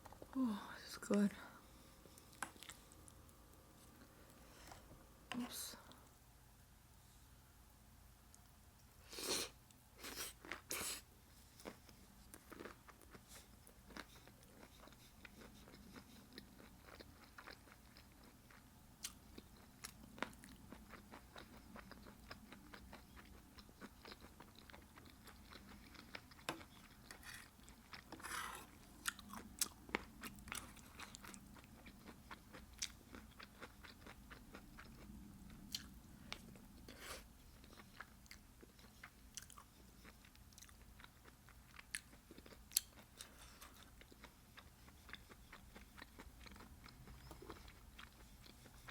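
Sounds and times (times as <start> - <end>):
chewing crunchy food: 2.0 - 4.9, 10.0 - 48.9.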